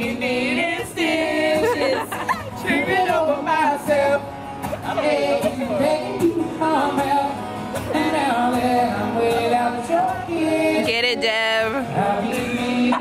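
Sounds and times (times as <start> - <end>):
women singing together: 0.0 - 13.0.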